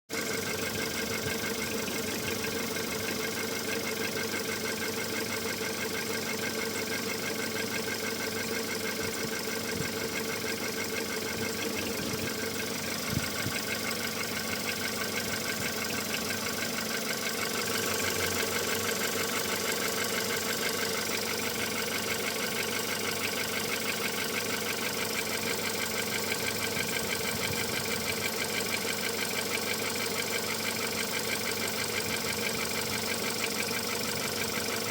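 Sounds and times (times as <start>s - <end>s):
car engine idling with knock: 0.1s - 34.9s.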